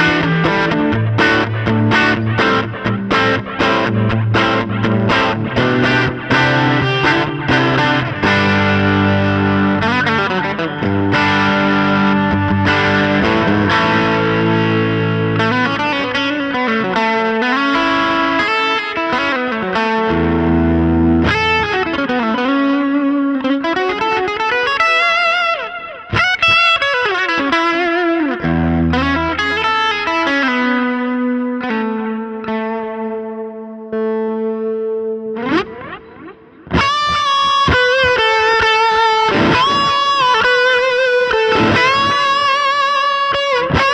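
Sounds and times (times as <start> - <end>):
electric guitar playing: 0.0 - 43.9.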